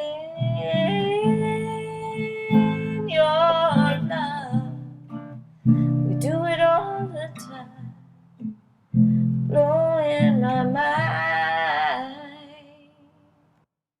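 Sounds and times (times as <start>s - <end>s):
acoustic guitar: 0.0s - 12.8s.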